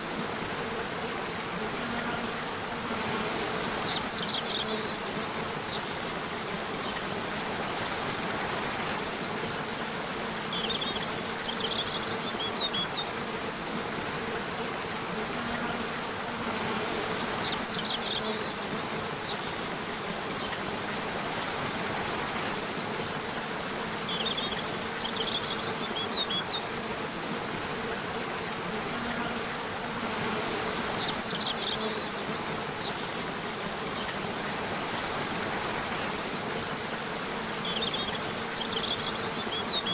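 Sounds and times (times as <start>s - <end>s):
constant hiss: 0.0s - 39.9s
insects buzzing: 0.0s - 39.9s.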